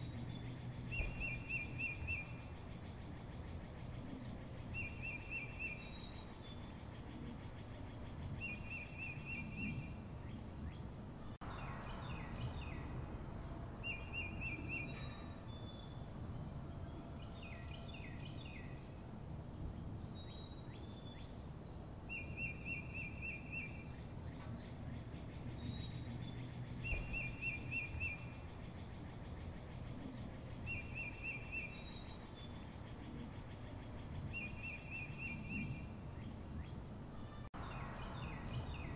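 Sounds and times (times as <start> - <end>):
bird chirps: 0.0 - 19.0, 22.1 - 38.9
songbirds trilling: 0.0 - 38.9.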